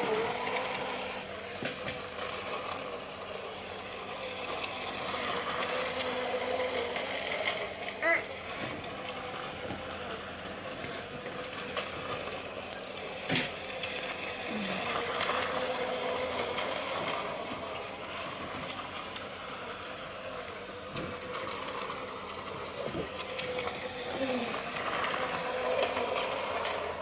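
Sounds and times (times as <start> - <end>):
toy train motor whirring: 0.0 - 27.0.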